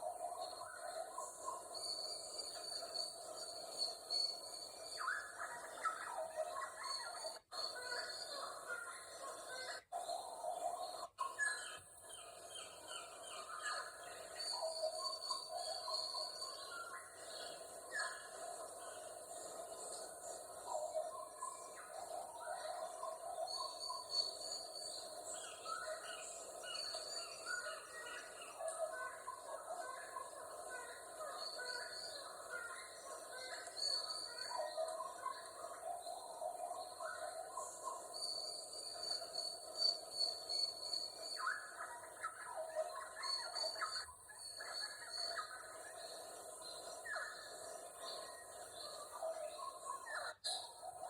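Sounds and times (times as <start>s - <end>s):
birds calling and chirping: 0.0s - 51.0s.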